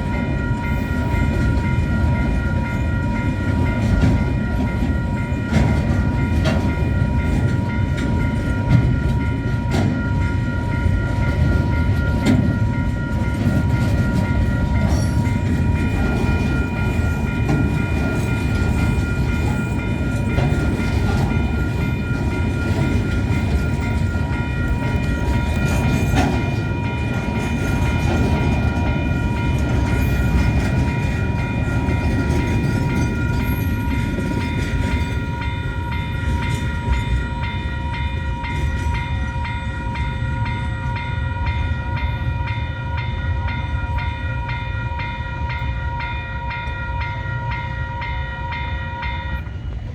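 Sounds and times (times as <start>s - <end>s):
crossing warning bells ringing: 0.0s - 49.9s
train wheels rumbling: 0.0s - 49.9s.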